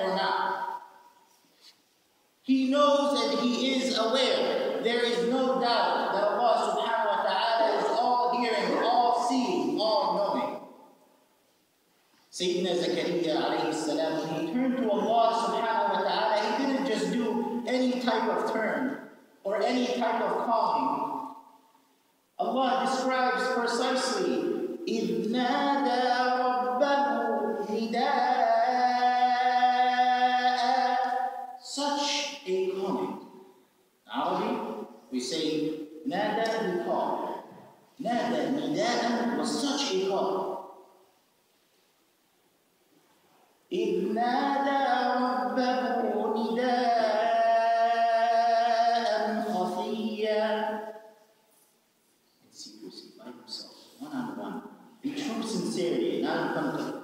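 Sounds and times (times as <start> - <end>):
man chanting melodically: 0.0 - 0.9, 2.4 - 10.7, 12.3 - 21.4, 22.4 - 33.3, 34.1 - 40.7, 43.7 - 51.2, 52.5 - 57.0.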